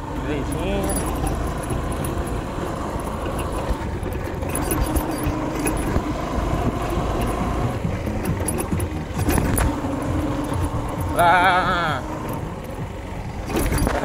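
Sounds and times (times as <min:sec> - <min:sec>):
motorcycle engine running: 0:00.0 - 0:14.0
small rattling clicks: 0:00.0 - 0:14.0.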